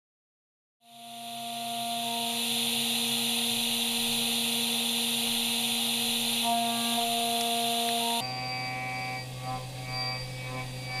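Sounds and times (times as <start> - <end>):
machine humming tones: 0.8 - 11.0.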